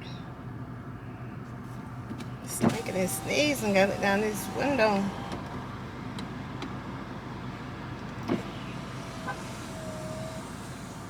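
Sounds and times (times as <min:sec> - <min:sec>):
car cabin hum: 0:01.5 - 0:11.0.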